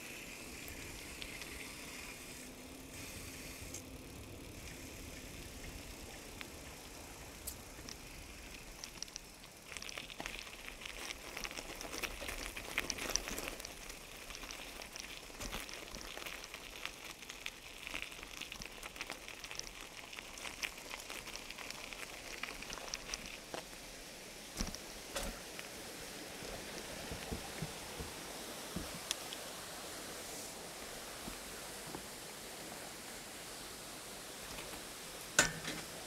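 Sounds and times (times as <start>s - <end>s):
bicycle tyres rolling on gravel: 0.0s - 36.0s.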